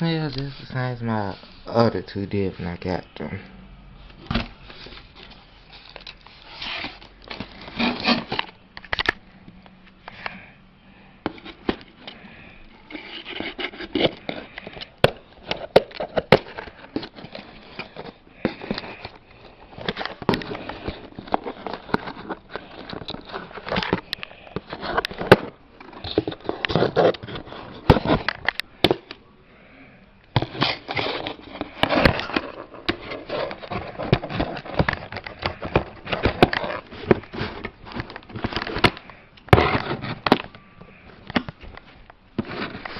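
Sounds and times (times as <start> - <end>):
packaging crackling and rustling: 4.3 - 9.2, 11.3 - 29.2, 30.3 - 42.9.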